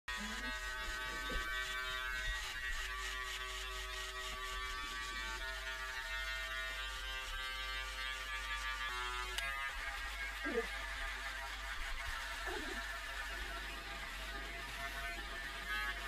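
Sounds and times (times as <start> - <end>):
electric shaver buzzing: 0.1 - 16.0.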